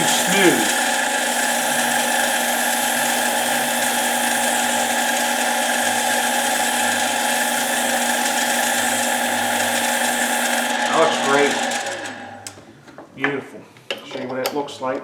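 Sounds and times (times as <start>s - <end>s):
mini lathe motor whine: 0.0s - 12.6s.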